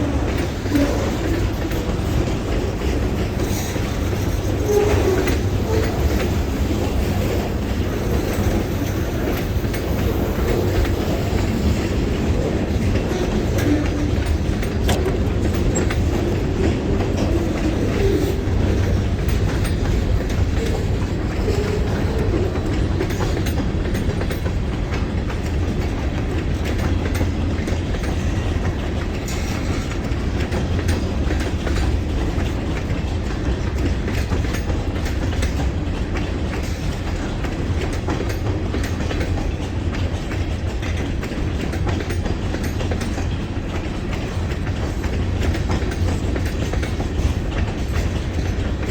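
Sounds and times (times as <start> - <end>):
freight train rumbling past: 0.0 - 48.9
wheels clicking over rail joints: 0.0 - 48.9.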